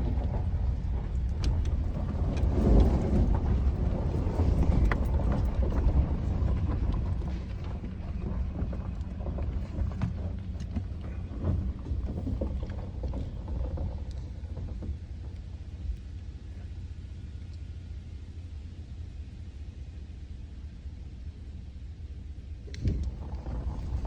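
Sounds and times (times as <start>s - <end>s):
vehicle low rumble: 0.0s - 24.0s.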